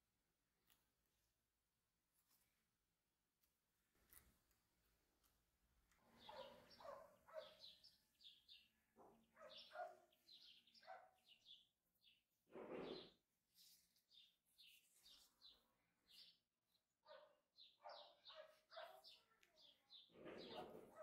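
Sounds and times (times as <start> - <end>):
faint birds chirping: 3.8 - 21.0.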